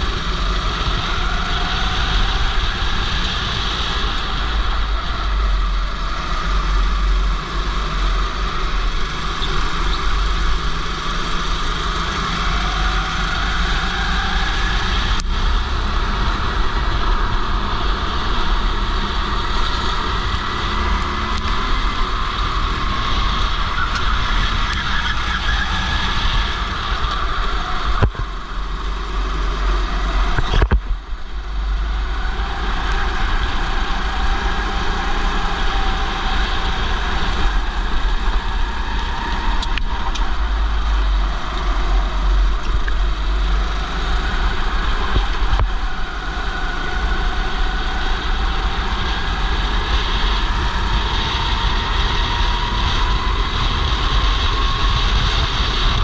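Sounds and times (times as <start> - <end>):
go-kart engine revving: 0.0 - 56.0
wind rumble on microphone: 0.0 - 56.0.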